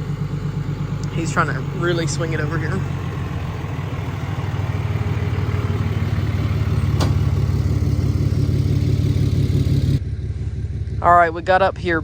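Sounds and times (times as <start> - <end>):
vehicle engine under load: 0.0 - 12.0.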